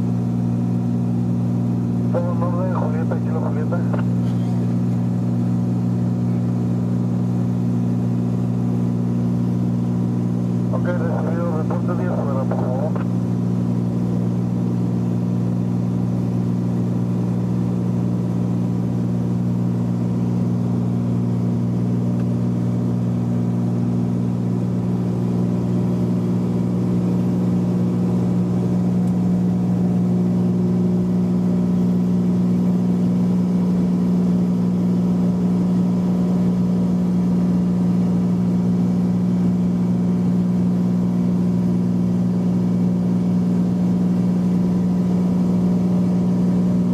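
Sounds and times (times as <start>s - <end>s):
propeller plane engine drone: 0.0s - 46.9s.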